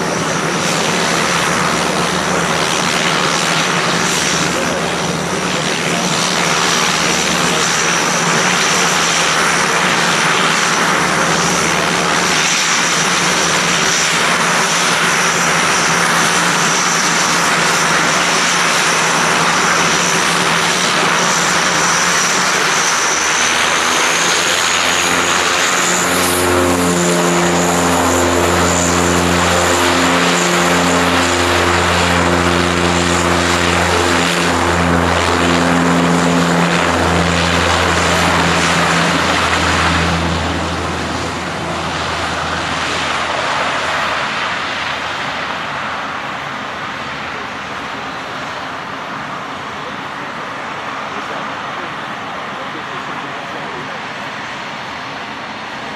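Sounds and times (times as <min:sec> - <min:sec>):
propeller throb: 0:00.0 - 0:50.0
turboprop turbine whine: 0:00.0 - 0:55.9.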